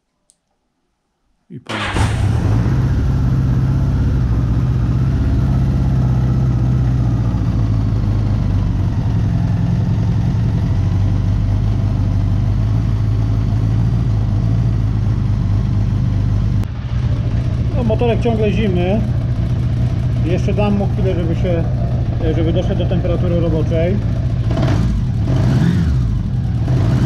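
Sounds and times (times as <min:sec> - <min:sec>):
motorcycle engine idling: 0:02.5 - 0:26.8.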